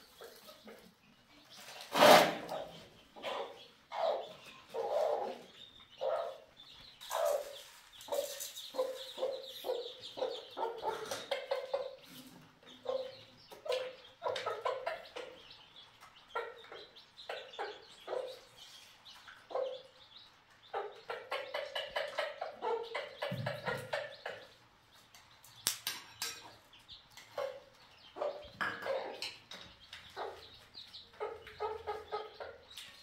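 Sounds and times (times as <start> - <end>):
hen clucking: 0.0 - 24.7, 26.4 - 33.0
chicks peeping: 0.0 - 33.0.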